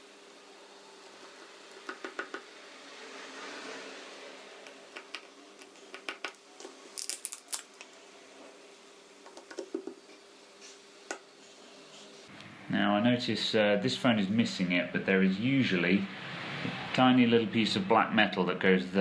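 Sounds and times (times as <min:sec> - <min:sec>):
faint steady hum: 0:00.0 - 0:16.6.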